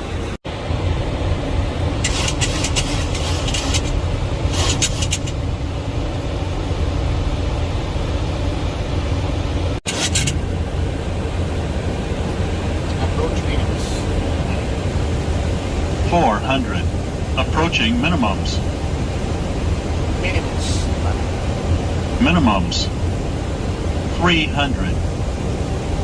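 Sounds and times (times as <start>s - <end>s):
aircraft engine rumble: 0.0s - 26.0s
airflow rush in cockpit: 0.0s - 26.0s.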